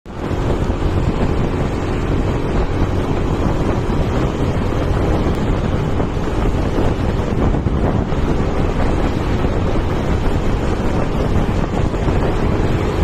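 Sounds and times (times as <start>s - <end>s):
wind blowing across microphone: 0.1s - 13.0s.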